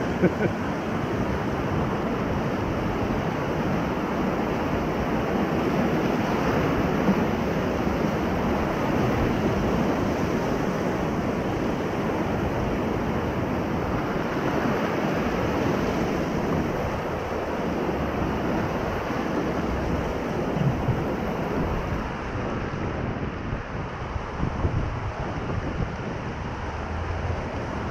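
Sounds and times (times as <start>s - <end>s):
whitewater rapids rushing: 0.0s - 24.3s.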